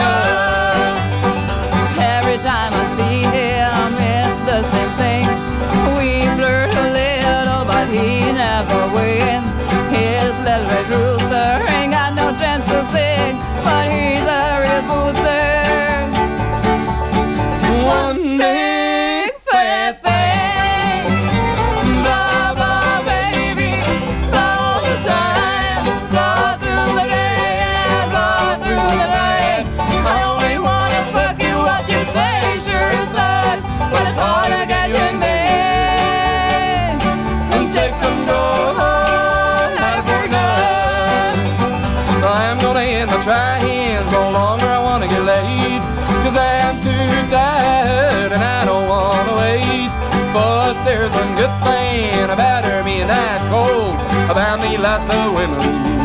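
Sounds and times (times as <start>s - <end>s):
instrumental bluegrass band music: 0.0s - 56.0s.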